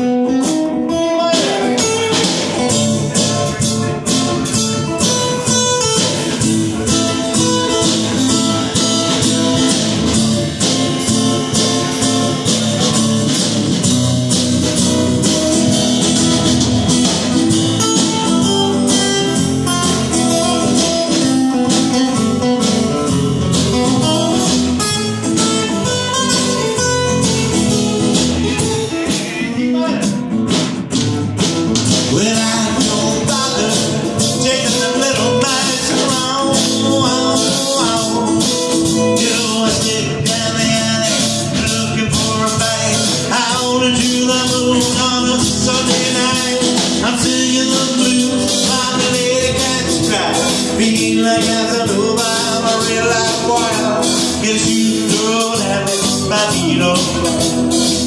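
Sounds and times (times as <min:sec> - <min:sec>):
acoustic guitars strummed: 0:00.0 - 0:58.0
drum kit with cymbals: 0:00.0 - 0:58.0.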